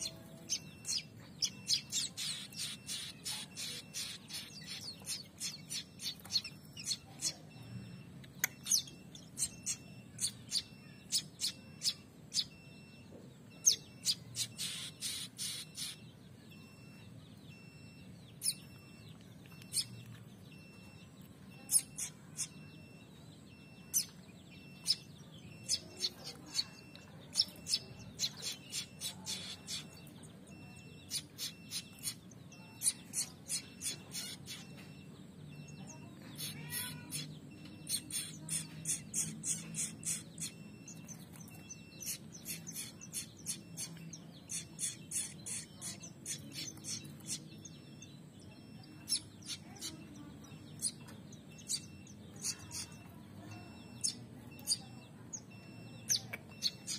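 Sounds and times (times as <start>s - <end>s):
bird chicks chirping: 0.0s - 56.9s.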